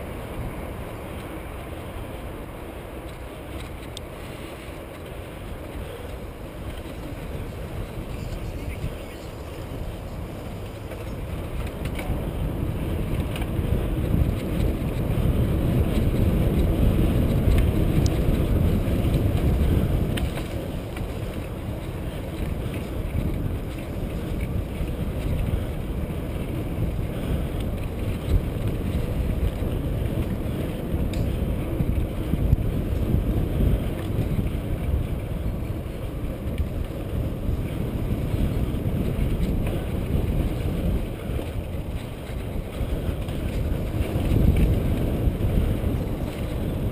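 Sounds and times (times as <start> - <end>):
bike rattling on dirt trail: 0.0 - 46.9
wind buffeting microphone: 0.0 - 46.9.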